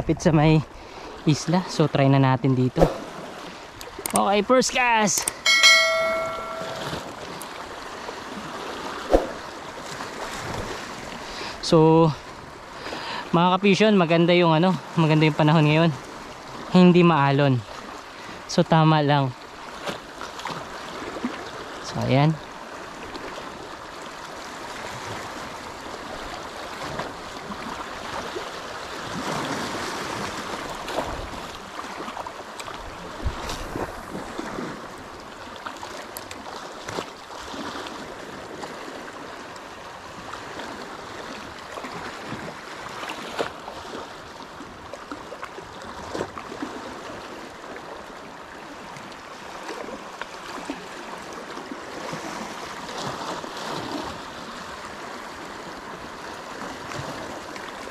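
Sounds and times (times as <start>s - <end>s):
small sea waves lapping: 0.1s - 57.9s.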